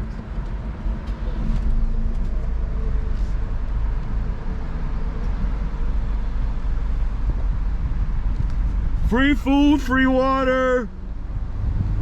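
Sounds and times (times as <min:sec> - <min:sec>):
car rumbling on the move: 0:00.0 - 0:12.0.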